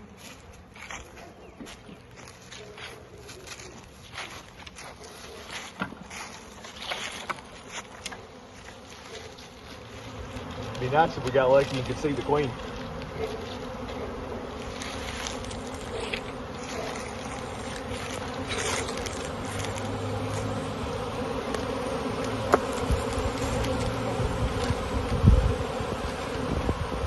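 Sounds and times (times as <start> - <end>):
bee swarm buzzing: 0.0 - 27.0.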